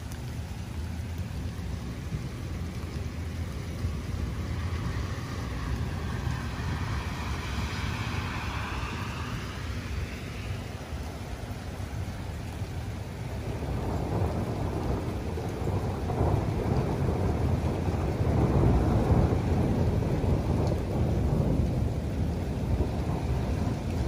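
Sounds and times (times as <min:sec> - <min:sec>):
low roll of thunder: 0:00.0 - 0:24.0
steady rain: 0:00.0 - 0:24.0.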